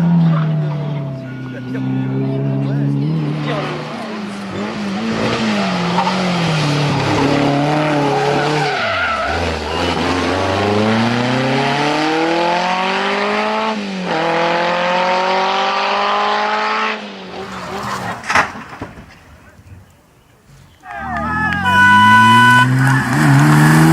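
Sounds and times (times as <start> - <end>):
rally car engine accelerating: 0.0 - 18.7, 20.5 - 23.9.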